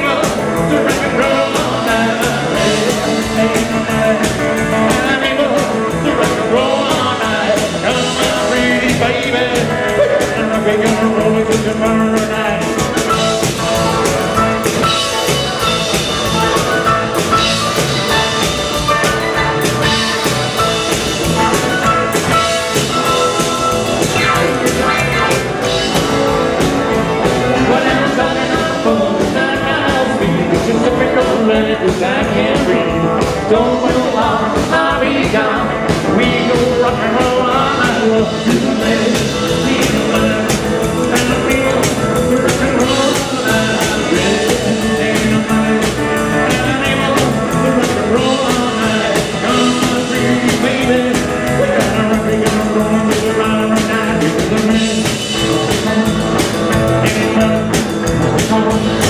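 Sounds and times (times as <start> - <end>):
rock and roll band playing: 0.0 - 59.0.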